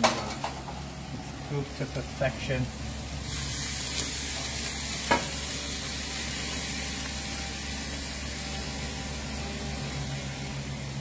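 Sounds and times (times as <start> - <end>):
food sizzling: 0.0 - 11.0.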